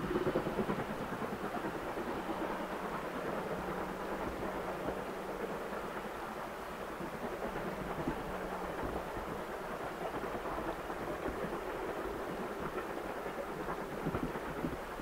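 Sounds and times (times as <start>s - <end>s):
distant steam train rushing: 0.0s - 15.0s.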